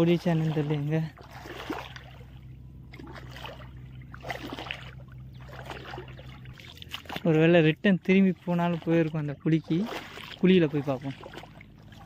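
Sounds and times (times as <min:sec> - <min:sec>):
low hum: 0:00.0 - 0:12.0
river water sloshing and trickling: 0:00.0 - 0:12.0.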